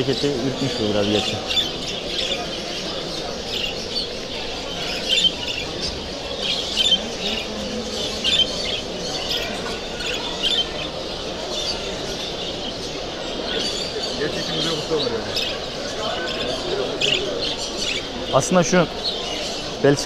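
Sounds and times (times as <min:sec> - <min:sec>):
budgerigars chattering and squawking: 0:00.0 - 0:20.0
murmur of voices: 0:00.0 - 0:20.0.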